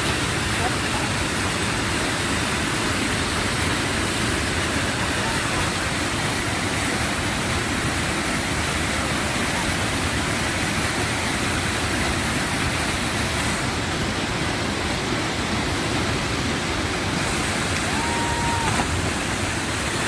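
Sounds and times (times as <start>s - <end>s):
waterfall pouring and splashing: 0.0s - 20.0s.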